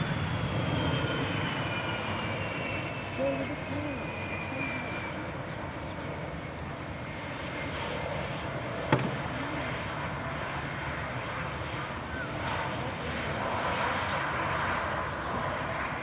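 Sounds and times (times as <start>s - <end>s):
distant jet engines running: 0.0s - 16.0s.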